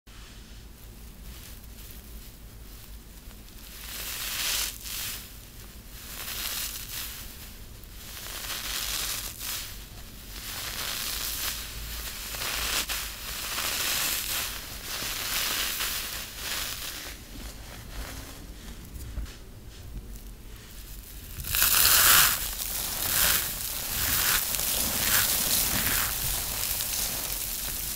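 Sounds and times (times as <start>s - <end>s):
tinsel crunching and crinkling: 0.4s - 27.9s.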